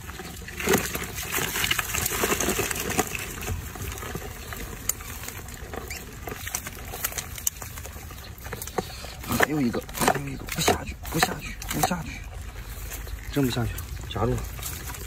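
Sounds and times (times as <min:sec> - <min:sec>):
crayfish scrabbling and clicking: 0:00.0 - 0:15.0.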